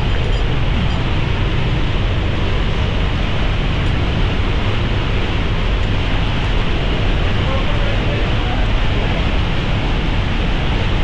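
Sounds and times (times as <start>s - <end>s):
water rushing in streambed: 0.0s - 11.0s.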